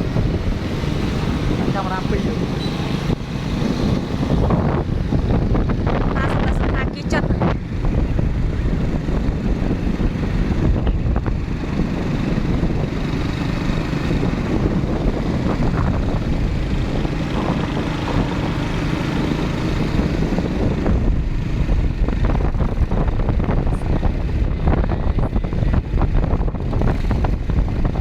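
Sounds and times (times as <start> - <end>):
motorbike engine: 0.0 - 28.0
road noise: 0.0 - 28.0
wind buffeting microphone: 0.0 - 28.0.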